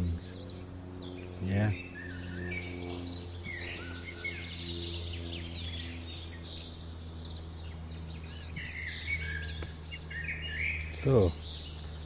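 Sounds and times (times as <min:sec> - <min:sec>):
small birds singing: 0:00.0 - 0:12.0
steady low hum: 0:00.0 - 0:12.0.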